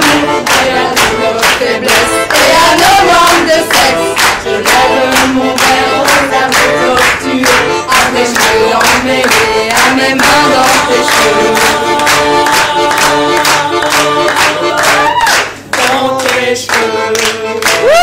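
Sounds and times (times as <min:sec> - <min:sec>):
piano accordion playing chords: 0:00.0 - 0:17.8.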